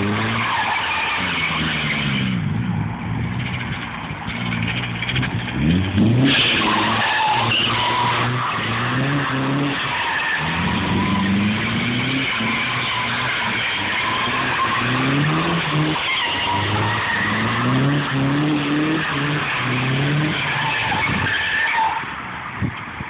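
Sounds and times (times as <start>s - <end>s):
car engine revving: 0.0s - 21.4s
tyres screeching: 3.4s - 22.2s.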